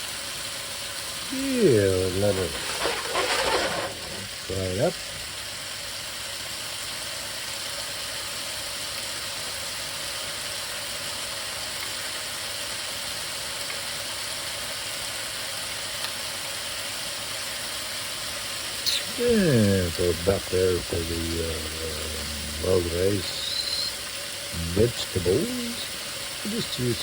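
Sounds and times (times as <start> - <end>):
food sizzling in a pan: 0.0 - 27.0.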